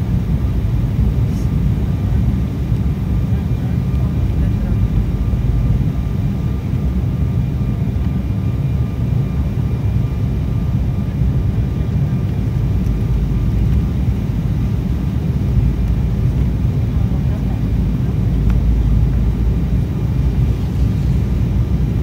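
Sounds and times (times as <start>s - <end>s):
airliner cabin rumble: 0.0s - 22.0s
faint steady whine: 0.0s - 22.0s.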